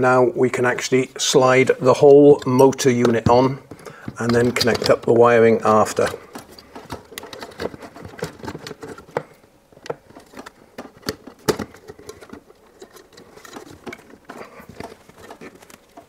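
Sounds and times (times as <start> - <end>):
plastic clicks and knocks: 2.4 - 16.0.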